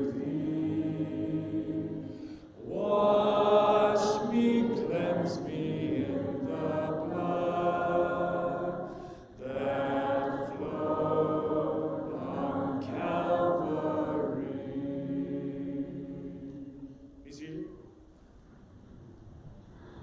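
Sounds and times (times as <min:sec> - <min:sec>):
congregation singing a hymn: 0:00.0 - 0:17.2.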